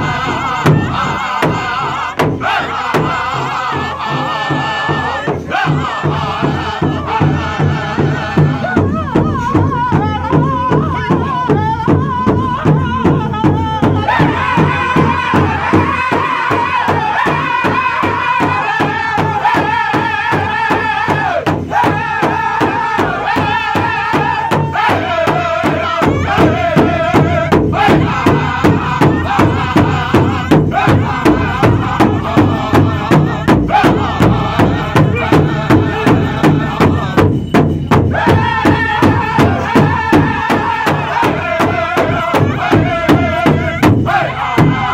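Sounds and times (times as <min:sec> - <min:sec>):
large drum beating: 0:00.0 - 0:44.9
men singing in unison: 0:00.0 - 0:44.9.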